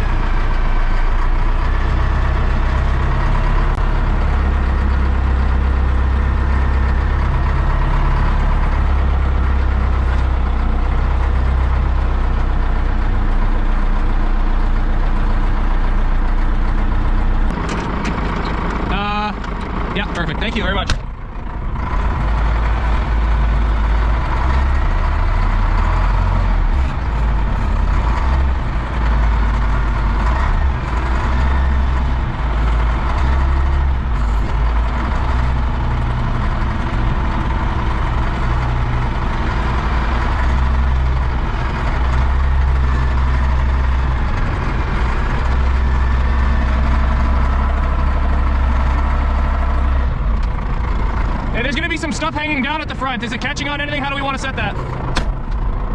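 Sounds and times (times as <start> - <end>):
vehicle engine idling: 0.0 - 55.9.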